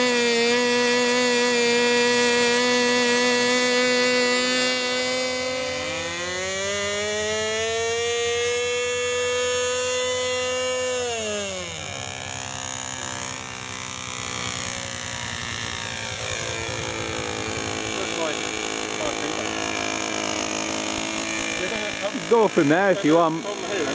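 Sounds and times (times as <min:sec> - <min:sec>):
model aircraft motor whining: 0:00.0 - 0:23.9.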